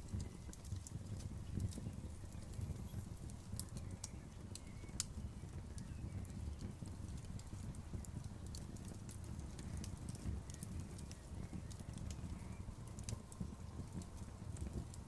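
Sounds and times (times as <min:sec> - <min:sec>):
campfire rumble: 0:00.0 - 0:15.0
fire crackles and pops: 0:00.0 - 0:15.0.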